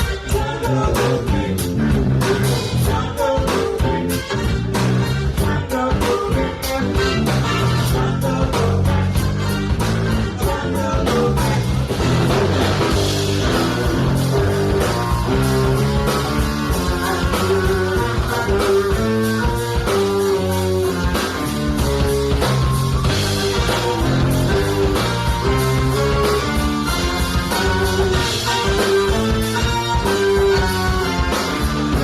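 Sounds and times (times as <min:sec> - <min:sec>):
bass line: 0:00.0 - 0:32.0
drums: 0:00.0 - 0:32.0
electric guitars picking a riff: 0:00.0 - 0:32.0.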